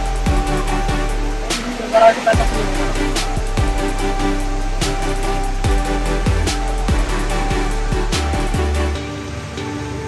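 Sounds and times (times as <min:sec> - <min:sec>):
background music with beat: 0:00.0 - 0:10.0
deep sliding bass notes: 0:00.0 - 0:10.0.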